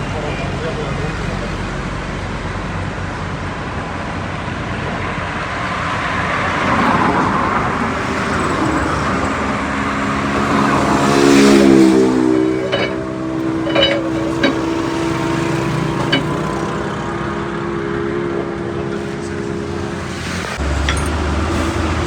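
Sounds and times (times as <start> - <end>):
highway traffic road noise: 0.0 - 22.0.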